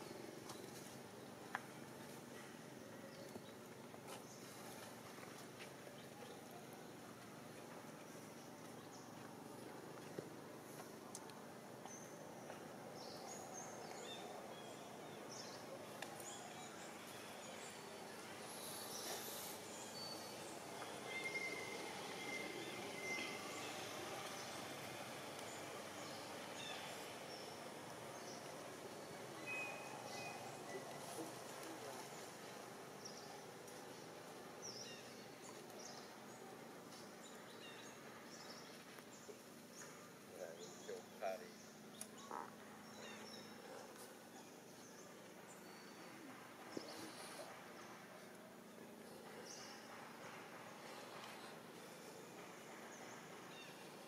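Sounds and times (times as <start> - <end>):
steady outdoor hiss: 0.0 - 54.0.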